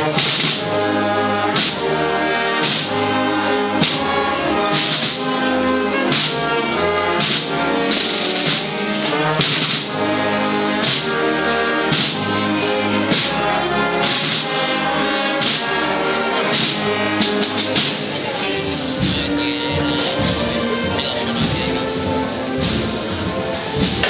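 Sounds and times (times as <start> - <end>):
brass band playing march: 0.0 - 24.0.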